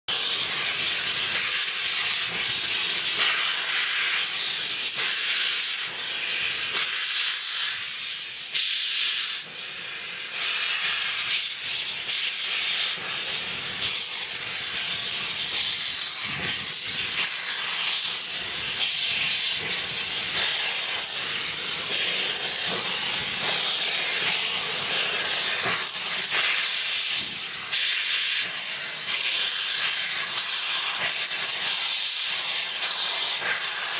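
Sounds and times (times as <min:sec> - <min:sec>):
steam locomotive hissing: 0:00.1 - 0:33.9.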